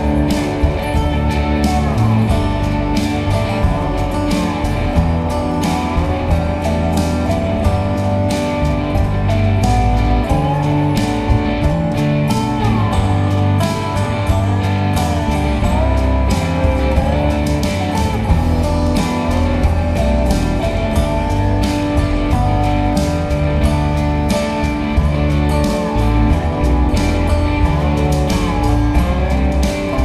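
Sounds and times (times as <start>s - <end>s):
song with guitar and beat: 0.0s - 30.0s.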